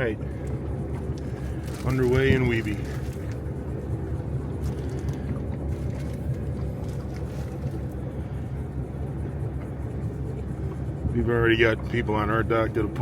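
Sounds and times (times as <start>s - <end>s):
boat motor humming: 0.0s - 13.0s
water noise: 0.0s - 13.0s
wind noise: 0.3s - 11.4s.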